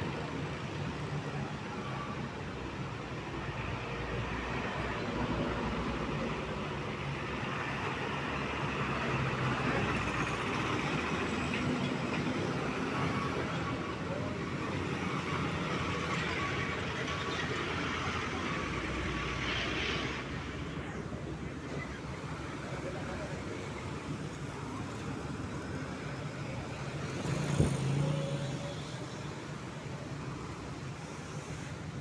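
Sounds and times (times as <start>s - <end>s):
road and traffic noise: 0.0s - 32.0s.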